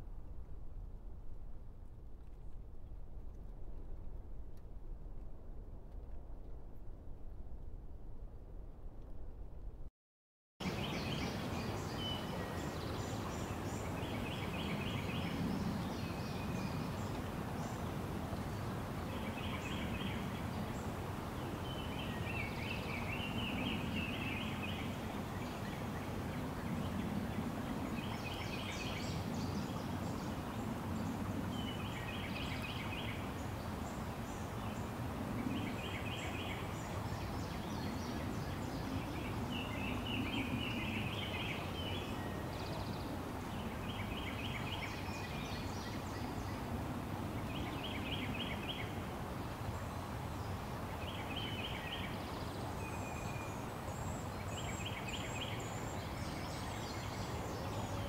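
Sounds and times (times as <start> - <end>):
rushing outdoor background noise: 10.6 - 58.0.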